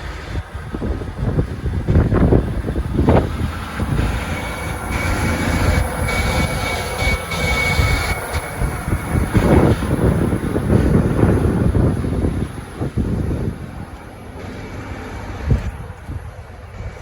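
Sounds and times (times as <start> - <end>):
high motor whine: 0.0 - 17.0
train rumbling: 0.0 - 17.0.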